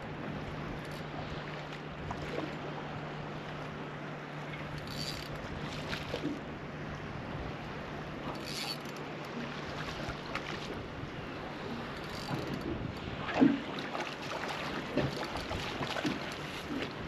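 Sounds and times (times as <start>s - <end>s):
sea and wind noise: 0.0s - 17.0s.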